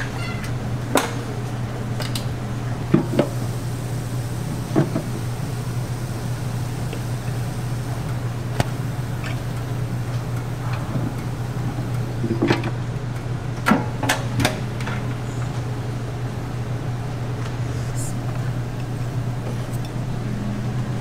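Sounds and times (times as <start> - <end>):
kitchen machinery hum: 0.0 - 21.0.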